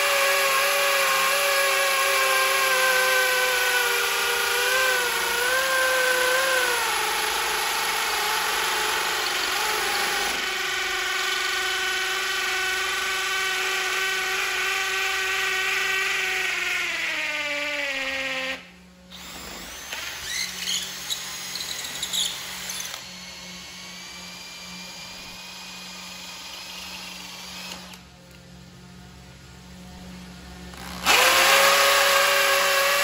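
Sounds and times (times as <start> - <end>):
hammer drill boring into concrete: 0.0 - 28.0, 30.7 - 33.0.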